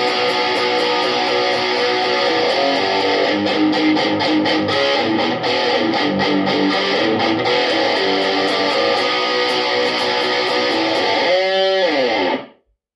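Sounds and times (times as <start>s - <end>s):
electric guitar notes: 0.0s - 12.6s.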